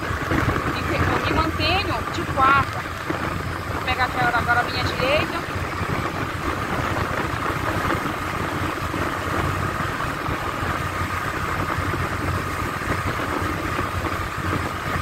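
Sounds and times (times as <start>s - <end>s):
riding noise: 0.0s - 15.0s
small motorcycle engine running: 0.0s - 15.0s.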